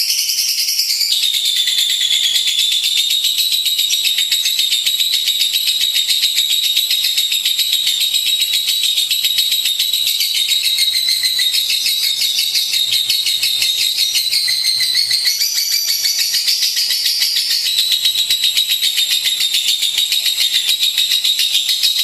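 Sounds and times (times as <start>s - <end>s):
lovebird rapid trill: 0.0s - 22.0s.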